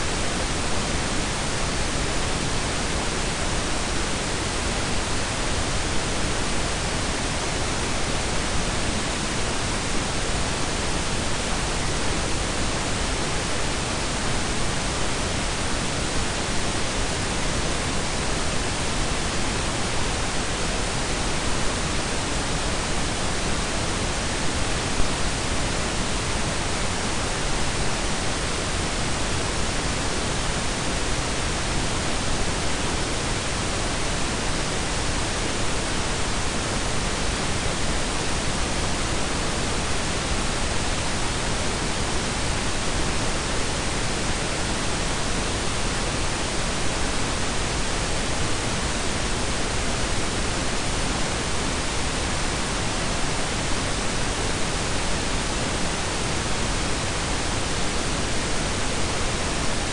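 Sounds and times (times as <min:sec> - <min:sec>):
steady noise hiss: 0:00.0 - 0:59.9.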